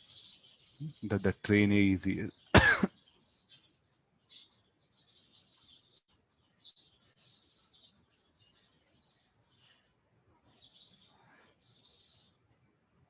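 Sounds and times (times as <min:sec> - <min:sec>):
faint high bird chirps: 0:00.0 - 0:12.7.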